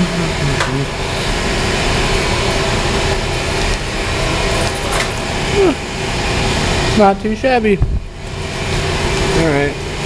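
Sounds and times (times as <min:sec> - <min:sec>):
machinery drone: 0:00.0 - 0:10.0.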